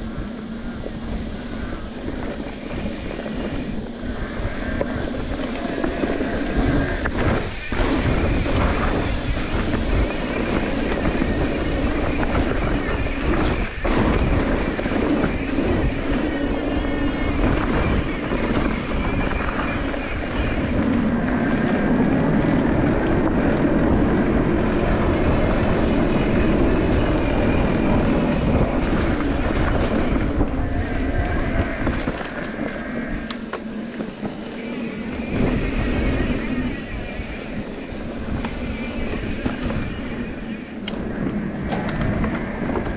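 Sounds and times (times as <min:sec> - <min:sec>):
wind rumble on microphone: 0:00.0 - 0:42.9.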